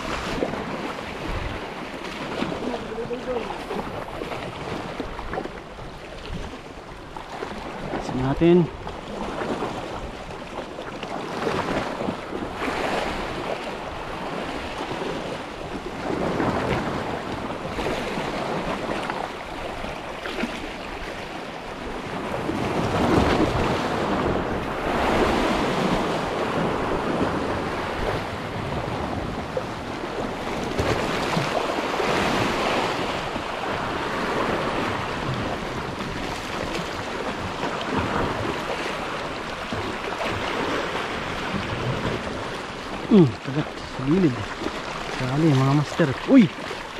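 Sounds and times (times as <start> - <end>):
sea waves washing: 0.0 - 46.9
wind buffeting microphone: 0.0 - 46.9.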